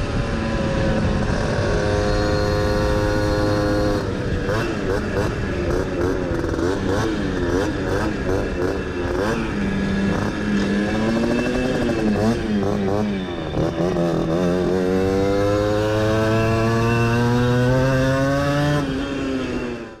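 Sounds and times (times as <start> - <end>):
moped engine revving: 0.0 - 20.0.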